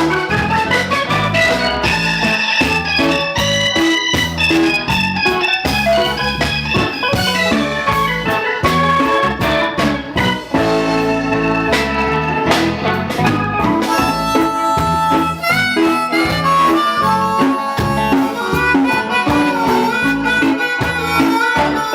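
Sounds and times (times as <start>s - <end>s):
live reggae band playing: 0.0s - 21.9s.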